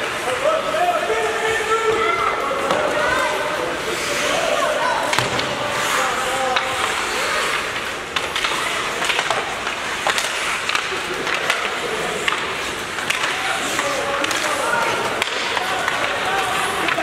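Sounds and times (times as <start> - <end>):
hockey sticks and puck clacking: 0.0 - 17.0
skates scraping on ice: 0.0 - 17.0.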